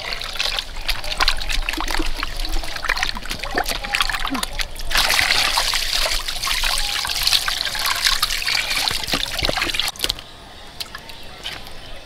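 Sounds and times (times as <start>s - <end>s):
running water splashing into basin: 0.0s - 10.0s.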